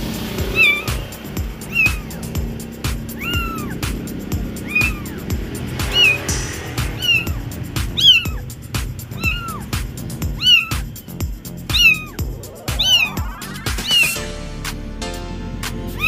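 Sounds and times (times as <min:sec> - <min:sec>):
background music with beat: 0:00.0 - 0:16.0
kitten mewing: 0:00.5 - 0:11.0, 0:11.6 - 0:14.2.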